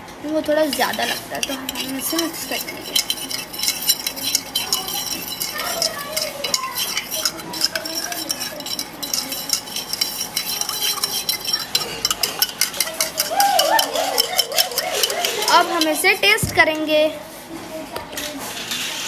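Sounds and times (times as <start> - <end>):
spoon clinking in metal jug: 0.7 - 16.2.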